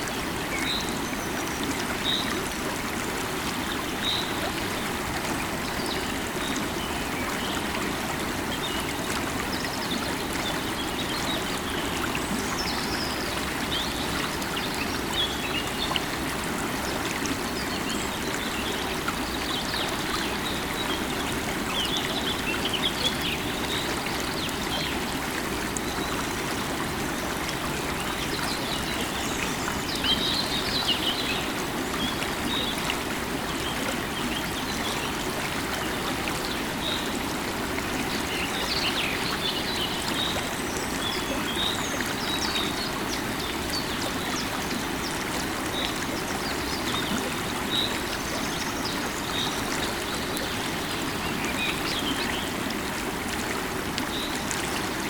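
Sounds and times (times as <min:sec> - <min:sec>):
river water babbling over stones: 0:00.0 - 0:55.0.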